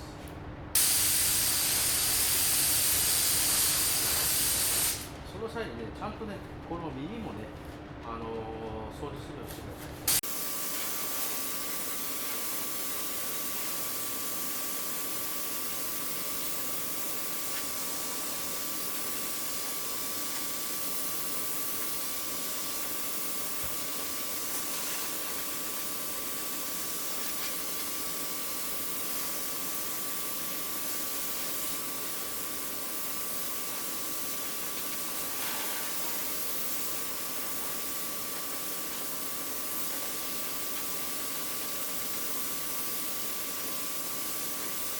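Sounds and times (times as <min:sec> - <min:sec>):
compressed air hissing from blow gun: 0:00.8 - 0:05.1, 0:10.1 - 0:44.9.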